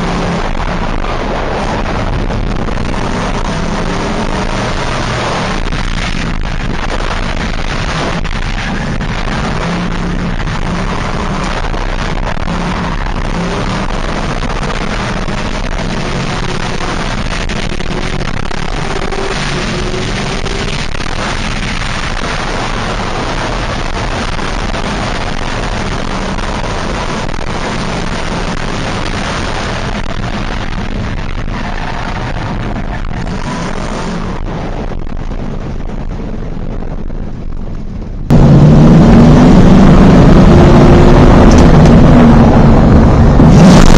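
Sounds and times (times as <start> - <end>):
car engine running hard: 0.0 - 43.9
loud steady rushing noise: 0.0 - 43.9.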